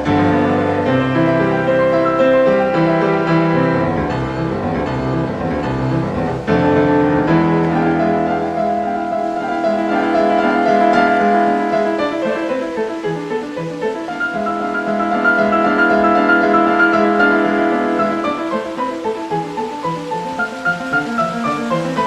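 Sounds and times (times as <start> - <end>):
piano piece: 0.0 - 22.0.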